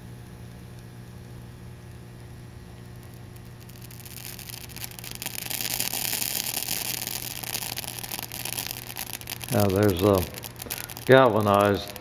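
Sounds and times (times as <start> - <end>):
low steady hum: 0.0 - 12.0
zinc sizzling and crackling: 0.6 - 12.0.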